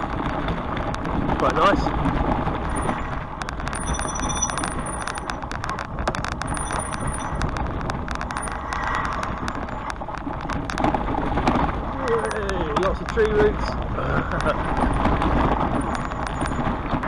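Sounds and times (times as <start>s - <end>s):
bicycle tyres rumbling on track: 0.0s - 17.0s
bike clicks and rattles: 0.0s - 17.0s.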